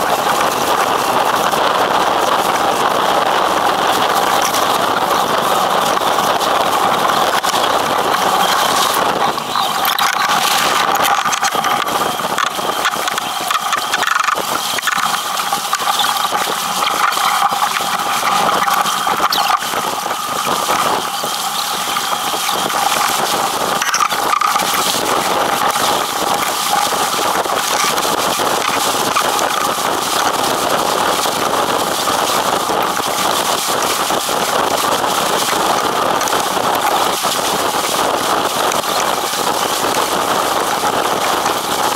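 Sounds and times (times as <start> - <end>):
wind buffeting microphone: 0.0 - 41.9
water streaming past hull: 3.7 - 41.8.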